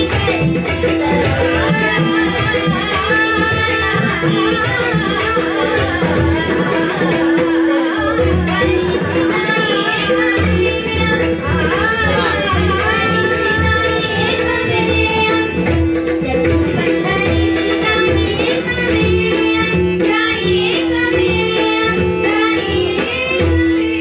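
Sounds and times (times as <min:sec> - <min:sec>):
harmonium: 0:00.0 - 0:24.0
tabla and pakhwaj drumming: 0:00.0 - 0:24.0
woman singing: 0:00.0 - 0:24.0.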